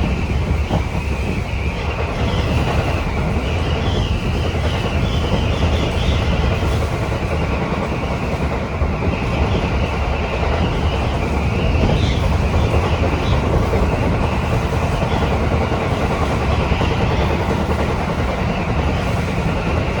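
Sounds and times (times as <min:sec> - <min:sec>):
strong wind noise: 0:00.0 - 0:20.0
train wheels rumbling: 0:00.0 - 0:20.0.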